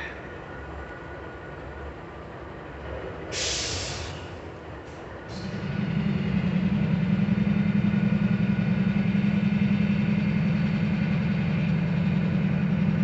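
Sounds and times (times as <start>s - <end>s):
locomotive diesel engines droning: 0.0s - 13.0s.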